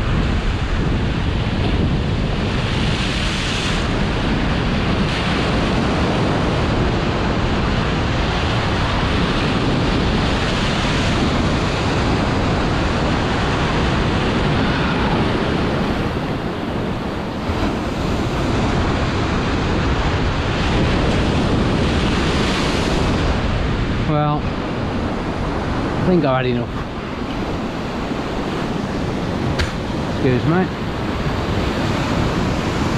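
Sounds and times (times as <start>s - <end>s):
surf breaking on shore: 0.0s - 32.9s
wind buffeting microphone: 0.0s - 32.9s.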